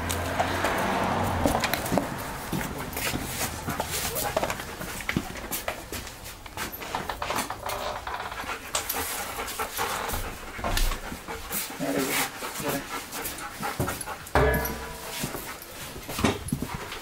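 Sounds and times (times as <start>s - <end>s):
dog panting: 0.7s - 6.9s, 7.9s - 17.0s.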